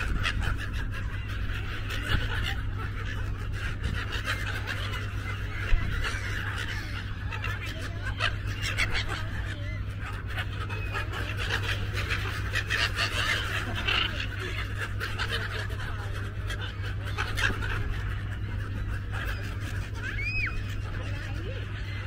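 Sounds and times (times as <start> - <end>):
gulls calling: 0.0 - 22.0.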